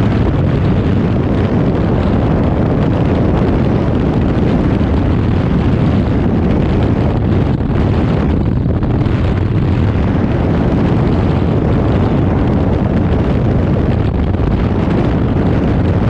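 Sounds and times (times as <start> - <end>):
wind roaring on microphone: 0.0 - 16.0.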